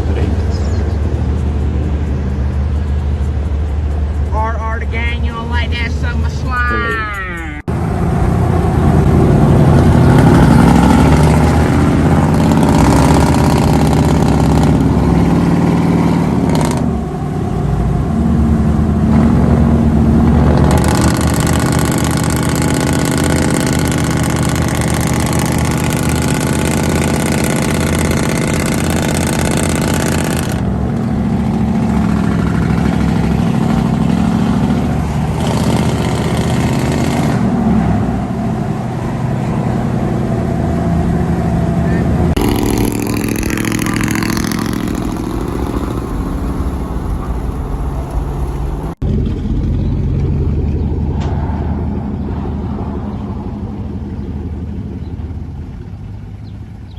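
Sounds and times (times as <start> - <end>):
truck engines revving: 0.0 - 56.9.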